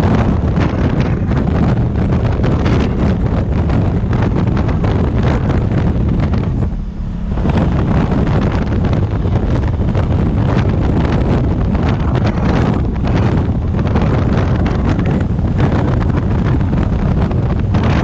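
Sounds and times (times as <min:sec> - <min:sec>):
low steady motorcycle engine: 0:00.0 - 0:18.0
wind buffeting microphone: 0:00.0 - 0:18.0.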